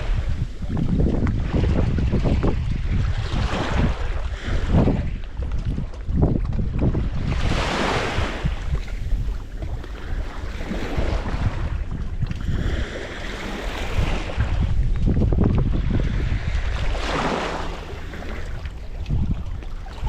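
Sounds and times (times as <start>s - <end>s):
waves washing: 0.0s - 20.0s
wind buffeting microphone: 0.0s - 20.0s.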